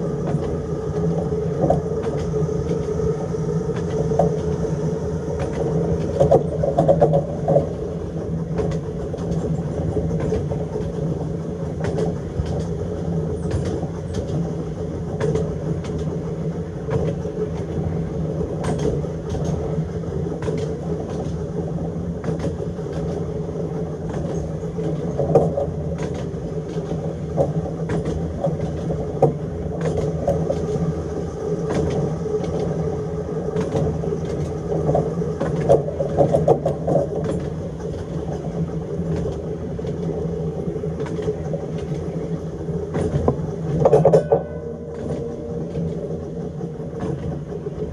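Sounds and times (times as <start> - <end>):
tram motor hum and rumble: 0.0 - 47.9.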